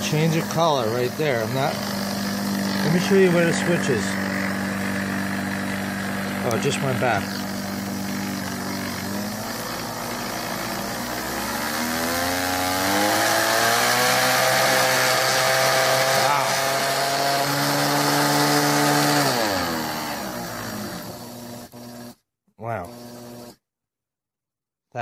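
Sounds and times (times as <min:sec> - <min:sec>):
electric mixer motor whine: 0:00.0 - 0:23.6.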